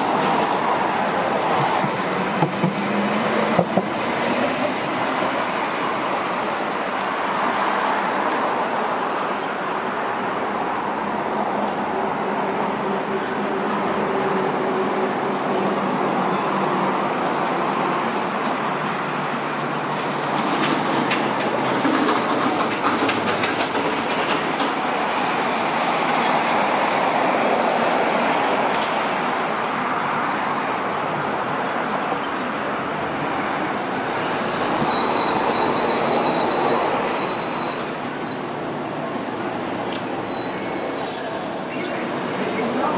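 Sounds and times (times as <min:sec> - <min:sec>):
train wheels on rails: 0:00.0 - 0:09.3, 0:12.9 - 0:31.6, 0:33.2 - 0:42.9.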